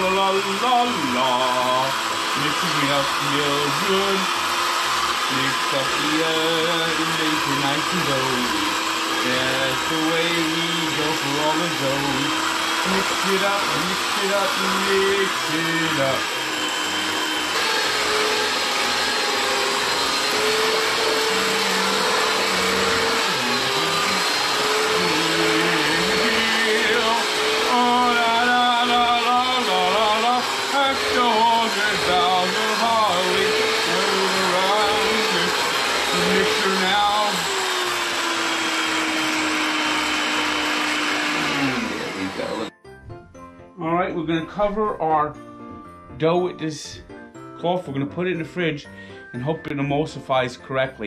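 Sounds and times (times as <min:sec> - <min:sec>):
electric mixer whining: 0:00.0 - 0:42.8.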